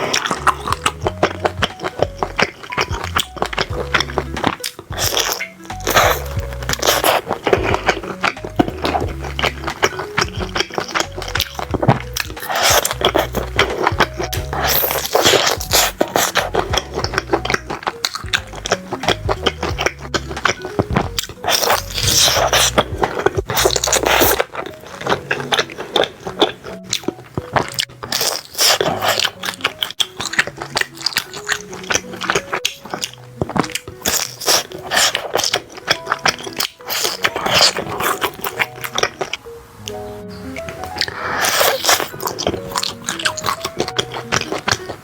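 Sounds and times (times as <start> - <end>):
background music: 0.0 - 45.0
crunchy chewing: 0.0 - 45.0.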